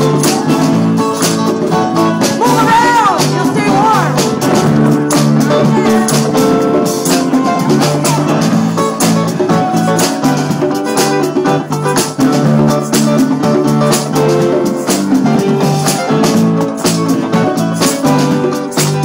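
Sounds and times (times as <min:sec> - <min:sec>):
drum kit: 0:00.0 - 0:19.0
electric guitar: 0:00.0 - 0:19.0
keyboard: 0:00.0 - 0:19.0.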